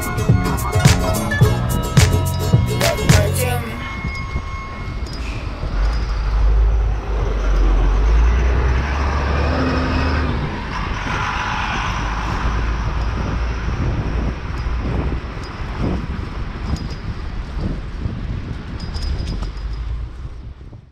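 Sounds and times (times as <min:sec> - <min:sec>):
street traffic: 0:00.0 - 0:20.9
wind rumble on microphone: 0:03.6 - 0:20.9.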